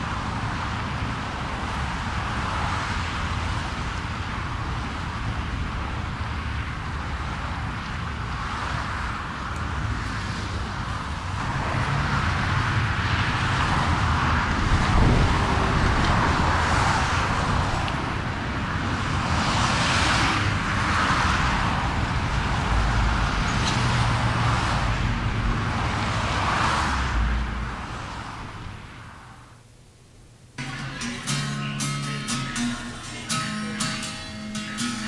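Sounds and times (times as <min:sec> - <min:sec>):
cars passing: 0:00.0 - 0:29.5, 0:30.6 - 0:35.0
low traffic rumble: 0:00.0 - 0:35.0.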